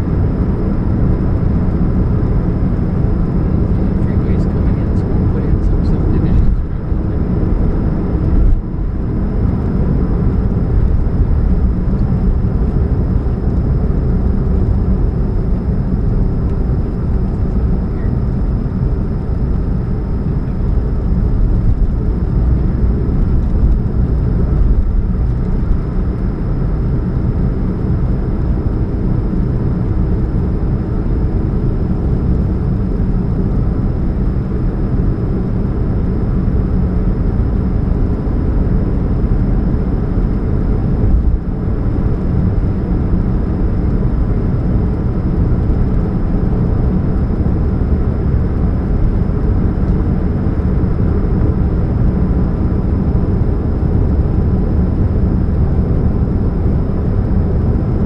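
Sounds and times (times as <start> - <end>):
car engine rumble: 0.0 - 58.0
faint steady hum: 0.0 - 58.0.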